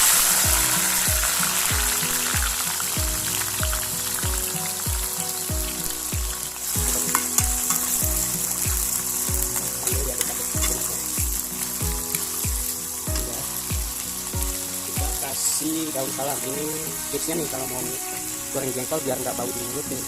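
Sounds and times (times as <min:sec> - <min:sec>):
background music with deep bass: 0:00.0 - 0:20.0
food sizzling in hot oil: 0:00.0 - 0:20.0.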